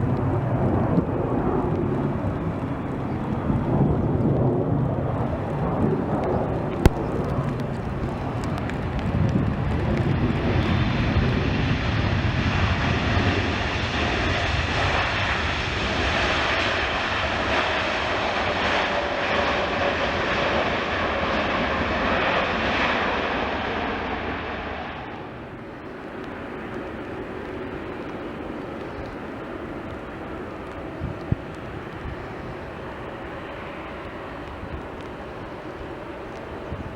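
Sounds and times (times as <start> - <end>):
airliner engines roaring: 0.0 - 36.9.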